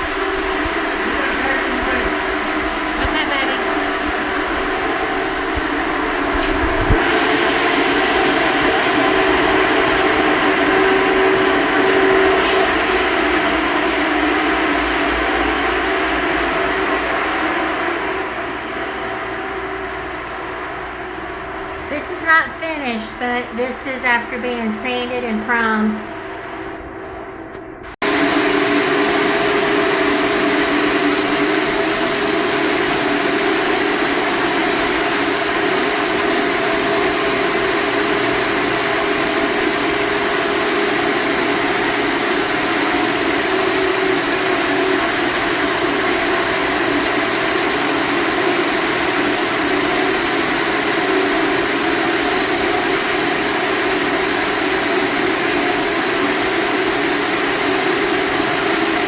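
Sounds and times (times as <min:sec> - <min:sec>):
blower motor humming: 0:00.0 - 0:59.0.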